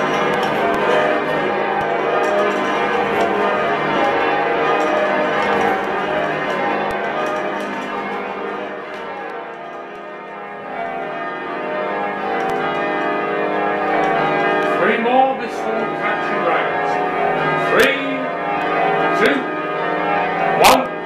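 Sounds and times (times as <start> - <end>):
church bells ringing: 0.0 - 21.0.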